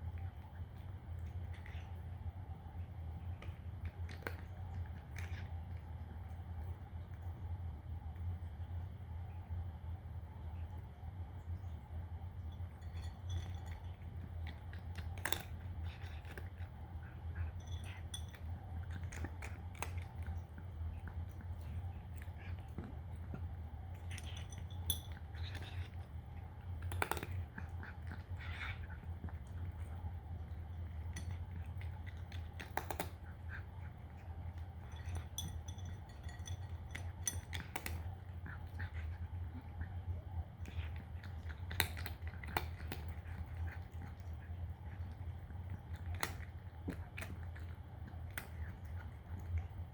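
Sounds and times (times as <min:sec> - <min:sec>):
cat crunching dry kibble: 0:00.0 - 0:08.9, 0:11.4 - 0:49.9
low hum: 0:00.0 - 0:49.9.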